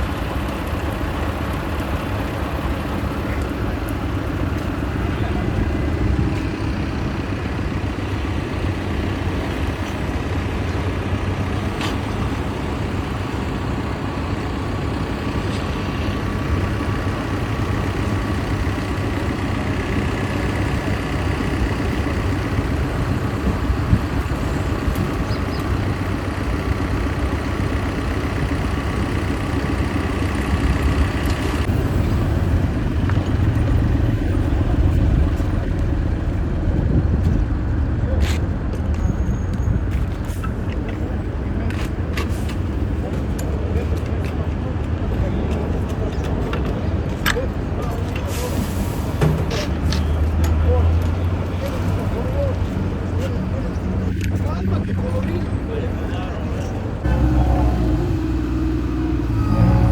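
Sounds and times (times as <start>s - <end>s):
heavy engine low rumble: 0.0s - 59.9s.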